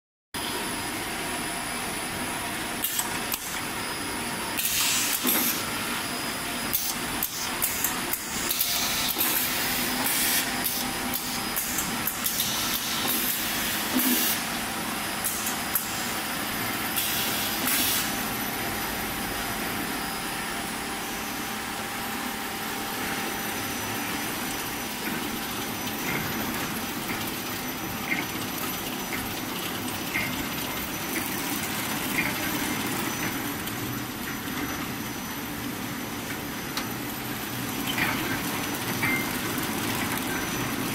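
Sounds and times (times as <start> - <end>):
packing machine hum: 0.4 - 40.9.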